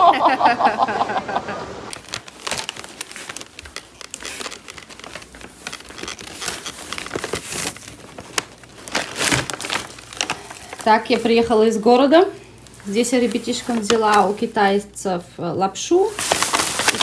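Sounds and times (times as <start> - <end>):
shopping bags rustling: 1.9 - 15.0, 15.8 - 17.0.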